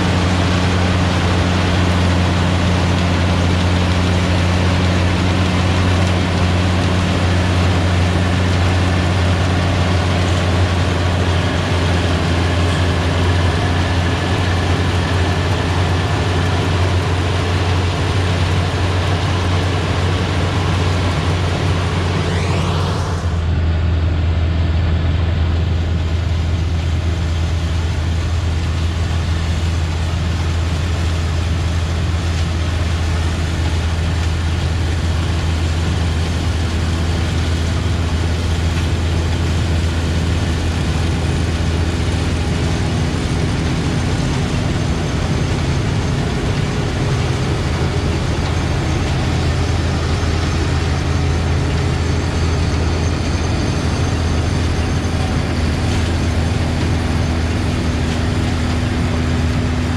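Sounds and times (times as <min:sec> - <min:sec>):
heavy engine droning: 0:00.0 - 0:59.9.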